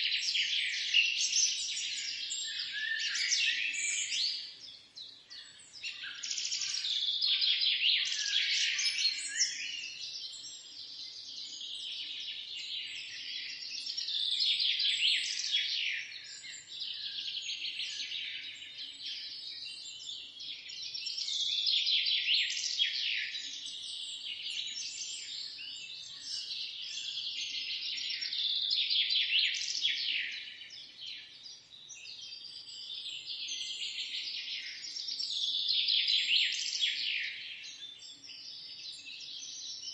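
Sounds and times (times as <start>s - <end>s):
small birds chirping in chorus: 0.0s - 39.9s.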